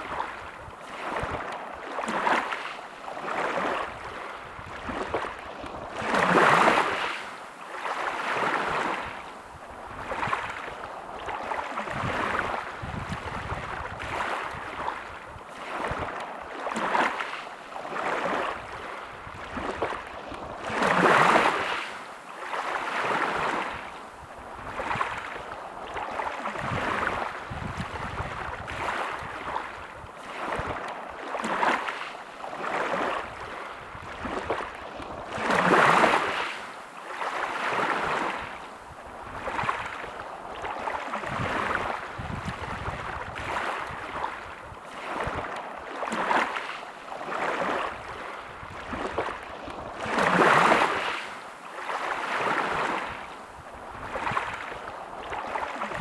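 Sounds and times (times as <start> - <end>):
bigger waves breaking: 0.0 - 56.0
small sea waves washing ashore: 0.0 - 56.0.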